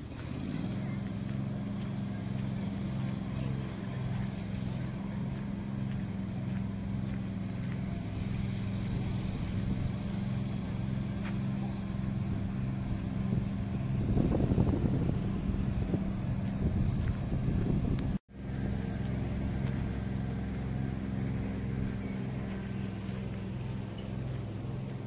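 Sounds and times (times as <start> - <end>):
motor humming and throbbing: 0.0 - 25.0.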